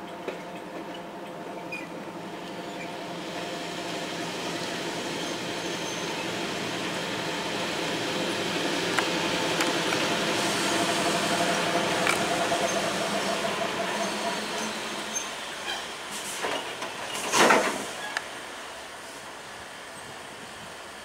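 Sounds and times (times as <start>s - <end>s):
electric locomotive motors humming: 0.0s - 17.2s.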